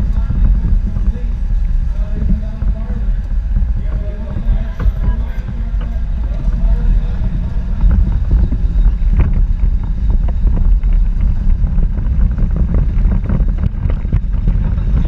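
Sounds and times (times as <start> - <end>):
car rattles and knocks: 0.0 - 15.0
wind buffeting microphone: 0.0 - 15.0.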